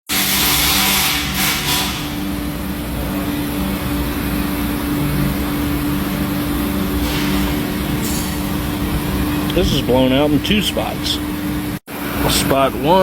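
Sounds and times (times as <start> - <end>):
machine hum with hiss: 0.1 - 13.0.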